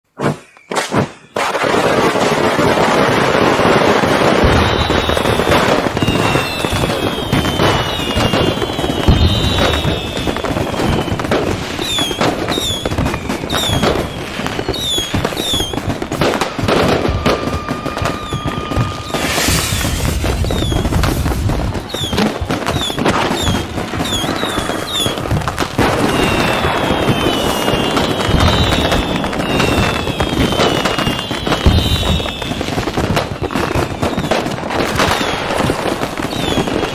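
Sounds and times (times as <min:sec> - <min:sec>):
falling whistles: 0:00.2 - 0:01.6, 0:04.2 - 0:15.9, 0:16.8 - 0:36.9
fireworks shells bursting: 0:00.2 - 0:36.9
fireworks crackling: 0:00.4 - 0:36.9.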